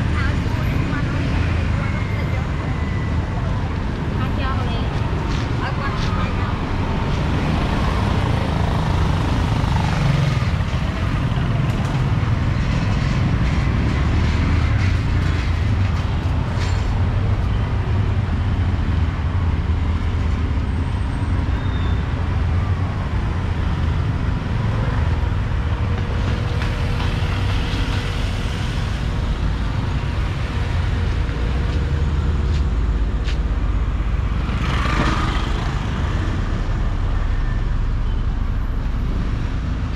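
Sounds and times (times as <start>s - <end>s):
passing car engines rumbling: 0.0s - 39.9s.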